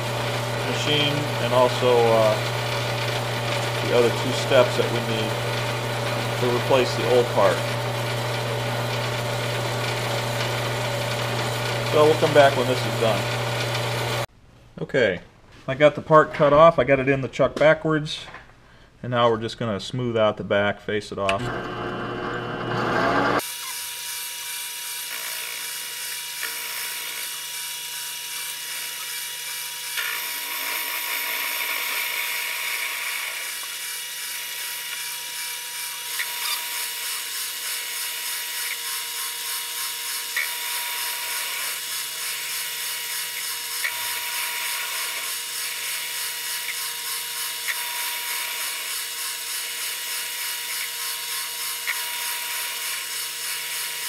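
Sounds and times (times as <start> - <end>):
metal lathe motor and gear whine: 0.0 - 14.2, 21.4 - 54.0
cutting tool cutting steel: 0.0 - 14.3, 23.3 - 54.0.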